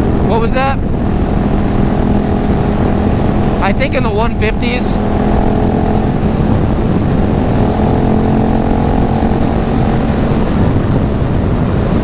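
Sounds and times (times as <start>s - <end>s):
motorcycle engine at high speed: 0.0s - 12.0s
wind rumble on microphone: 0.0s - 12.0s.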